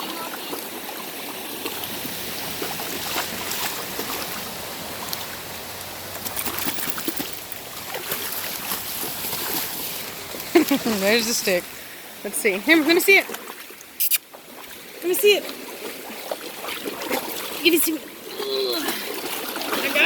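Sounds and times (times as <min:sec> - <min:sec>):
waterfall and stream rushing: 0:00.0 - 0:20.0.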